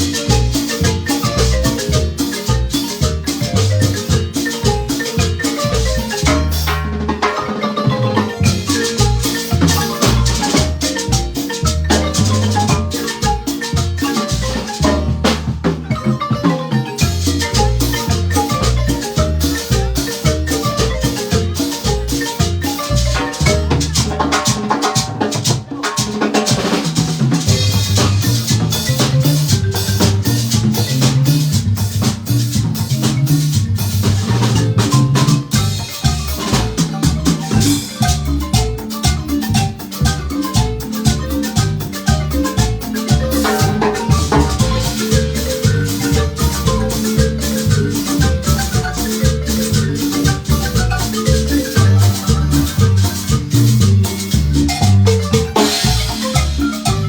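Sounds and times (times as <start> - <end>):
bass line: 0.0 - 7.2, 7.9 - 24.4, 27.5 - 57.0
marimba mallet strokes: 0.0 - 57.0
percussion steady beat: 0.0 - 57.0.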